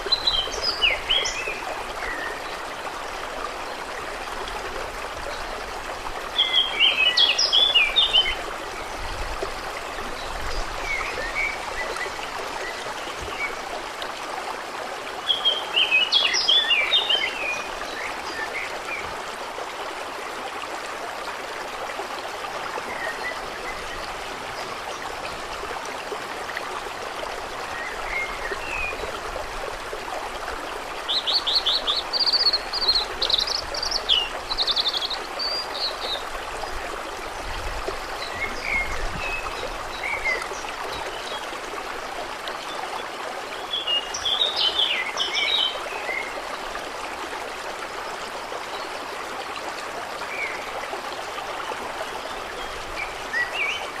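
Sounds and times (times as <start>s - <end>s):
trickling water: 0.0s - 54.0s.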